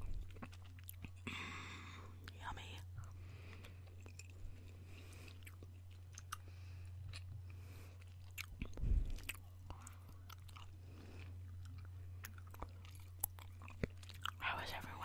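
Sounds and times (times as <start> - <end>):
gum chewing mouth clicks: 0.0 - 1.3, 2.2 - 14.4
steady low hum: 0.0 - 15.0.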